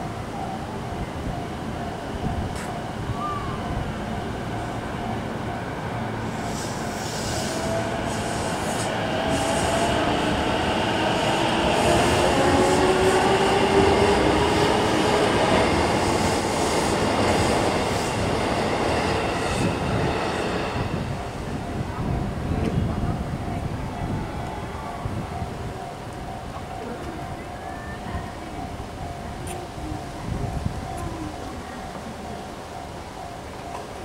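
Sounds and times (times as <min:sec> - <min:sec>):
electric trains passing: 0:00.0 - 0:34.0.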